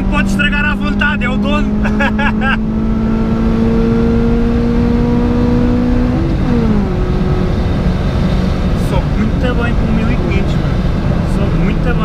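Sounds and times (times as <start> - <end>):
car engine revving from inside: 0.0 - 12.0.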